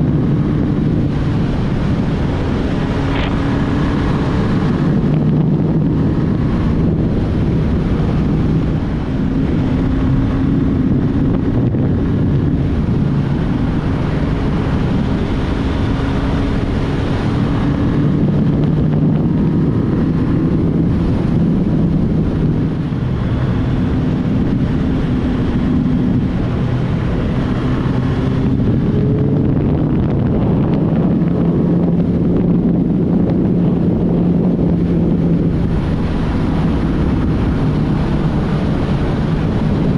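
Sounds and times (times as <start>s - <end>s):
motorcycle engine humming: 0.0s - 39.9s
wind rushing over microphone: 0.0s - 39.9s.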